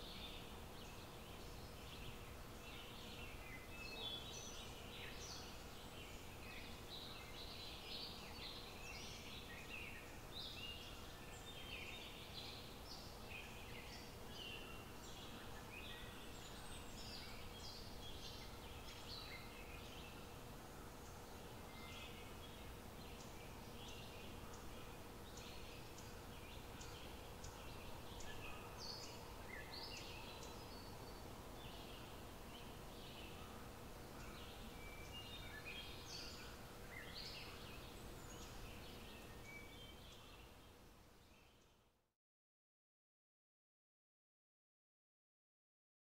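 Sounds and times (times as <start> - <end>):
background hiss: 0.0 - 42.1.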